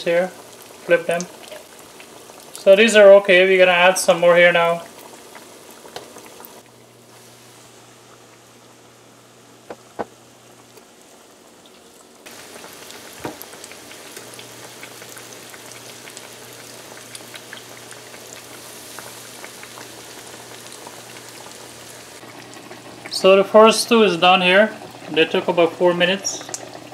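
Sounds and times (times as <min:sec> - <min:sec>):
food sizzling in hot oil: 0:00.0 - 0:26.9.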